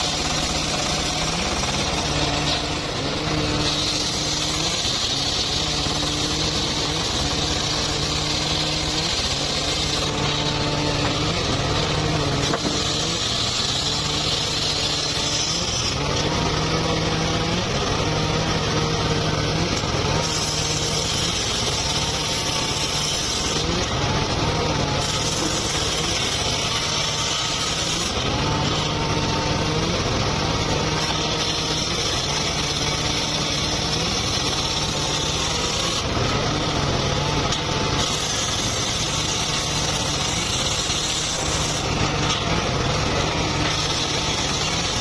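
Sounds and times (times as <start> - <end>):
hiss of sawing wood: 0.0 - 45.0
sawmill engine running: 0.0 - 45.0.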